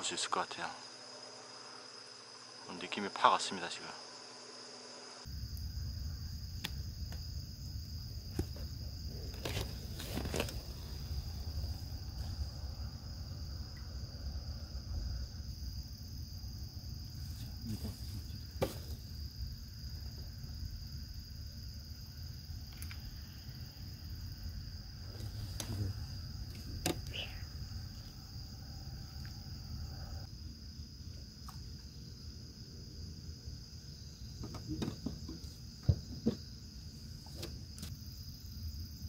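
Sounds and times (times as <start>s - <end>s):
night insects chorus: 0.0s - 39.0s.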